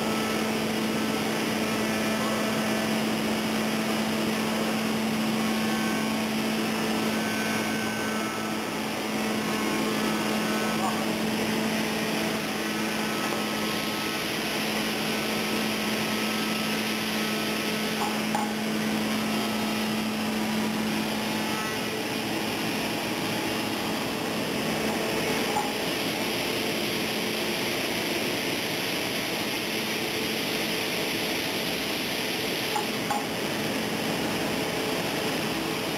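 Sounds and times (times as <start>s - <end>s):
constant low hum: 0.0s - 35.9s
panel saw machine noise: 0.0s - 35.9s.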